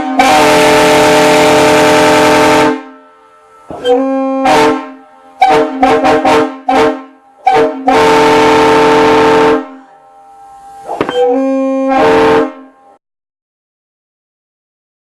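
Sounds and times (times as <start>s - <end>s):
locomotive air horn blasts: 0.0s - 13.0s.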